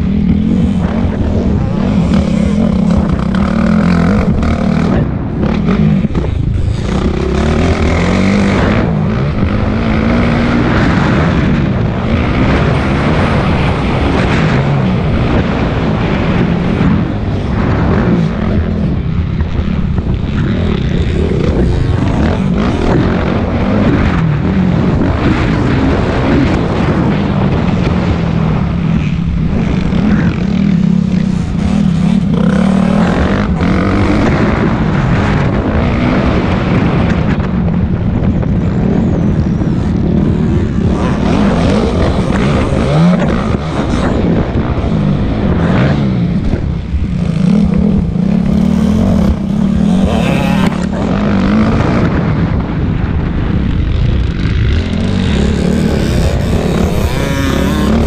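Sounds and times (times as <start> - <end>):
motocross bike engine revving: 0.0 - 37.5, 38.8 - 58.0.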